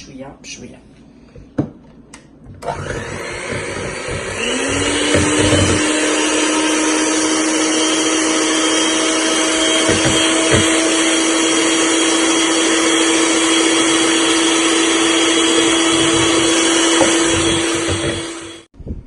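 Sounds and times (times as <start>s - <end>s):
electric mixer beating batter: 2.6s - 18.7s.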